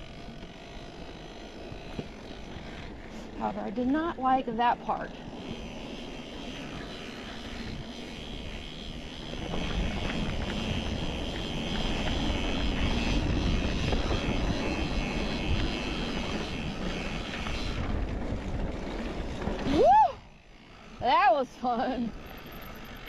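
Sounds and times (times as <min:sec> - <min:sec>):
bike tyres on dirt trail: 0:00.0 - 0:23.0
wind rushing over microphone: 0:01.7 - 0:20.3.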